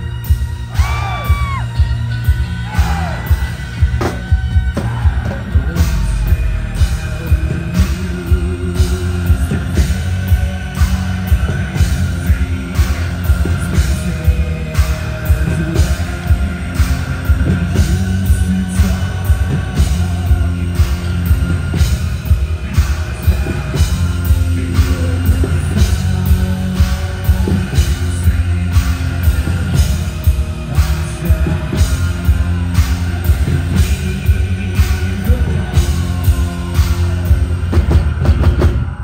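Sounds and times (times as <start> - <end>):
metal band playing: 0.0 - 39.0.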